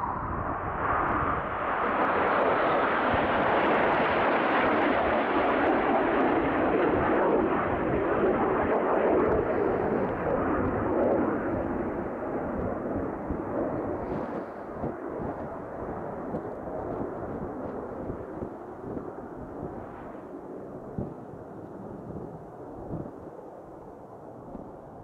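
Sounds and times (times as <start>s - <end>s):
wind buffeting microphone: 0.0s - 3.8s, 6.6s - 23.4s
aircraft passing overhead: 0.0s - 25.0s.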